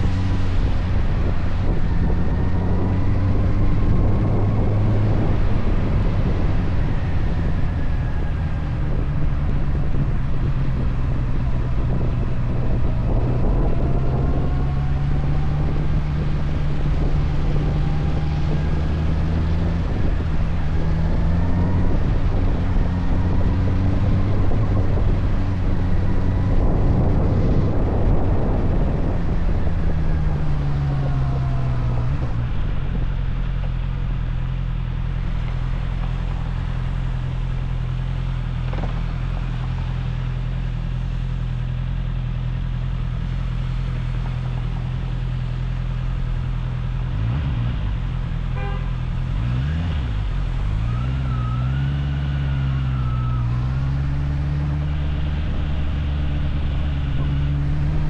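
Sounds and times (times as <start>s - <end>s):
motorcycle engine: 0.0s - 50.7s, 52.3s - 58.0s
wind noise: 0.0s - 58.0s.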